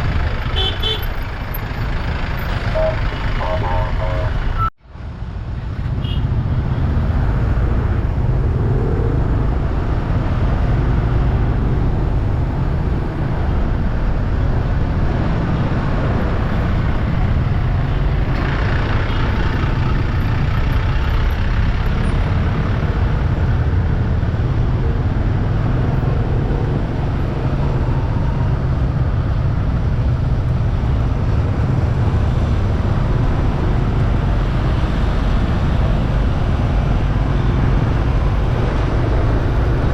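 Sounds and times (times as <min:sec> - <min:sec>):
vehicles running nearby: 0:00.0 - 0:39.9
wind and road noise: 0:00.0 - 0:39.9.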